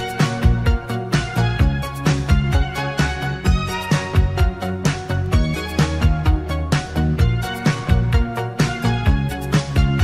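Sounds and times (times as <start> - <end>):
new wave song: 0.0 - 10.0.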